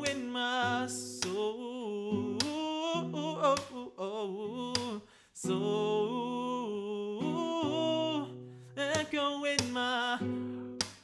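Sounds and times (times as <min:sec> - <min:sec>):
man singing wordless line: 0:00.0 - 0:10.8
strummed acoustic guitar: 0:00.0 - 0:11.0.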